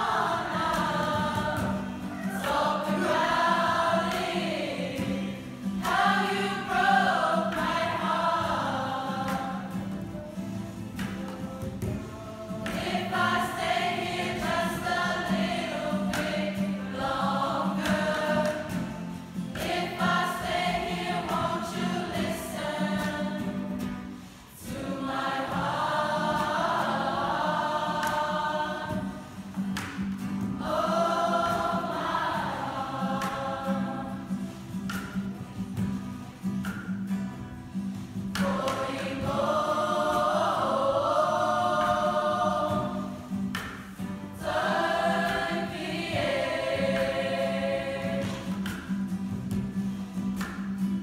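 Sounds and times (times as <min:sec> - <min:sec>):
choir singing: 0:00.0 - 0:29.6, 0:30.4 - 0:34.7, 0:38.3 - 0:43.6, 0:44.3 - 0:48.9
acoustic guitars: 0:00.0 - 0:51.0.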